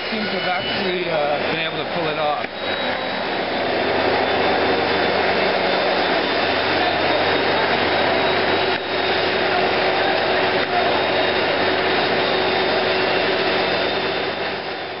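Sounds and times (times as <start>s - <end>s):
steady mechanical roar: 0.0s - 15.0s.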